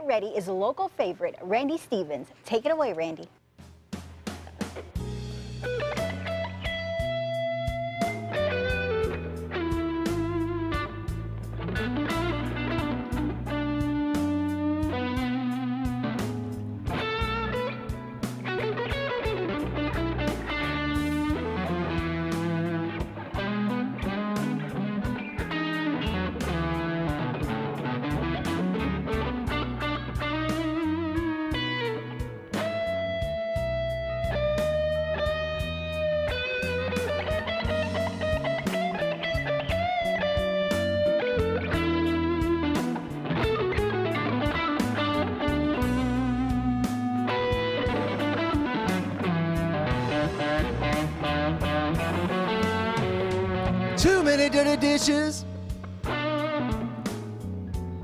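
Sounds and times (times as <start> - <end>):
electric blues guitar: 4.1 - 58.0.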